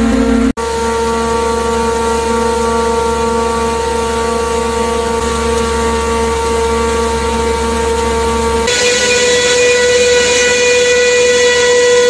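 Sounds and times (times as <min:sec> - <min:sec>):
production line machinery drone: 0:00.0 - 0:12.0.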